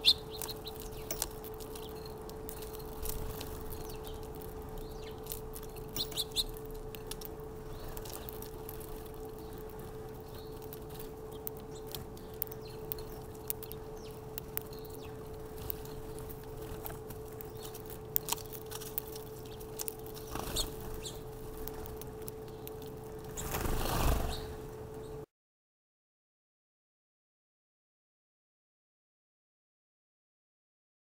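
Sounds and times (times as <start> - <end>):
small birds chirping: 0.0 - 25.2
steady hum: 0.0 - 25.3.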